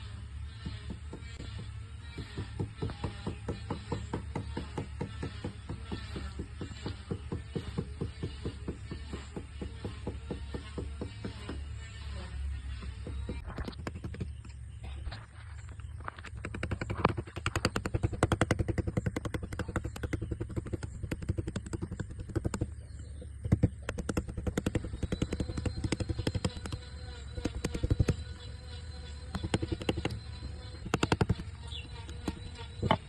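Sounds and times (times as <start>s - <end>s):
steady low hum: 0.0s - 33.0s
carving tool tapping wood: 0.6s - 11.6s, 16.4s - 28.4s, 29.2s - 33.0s.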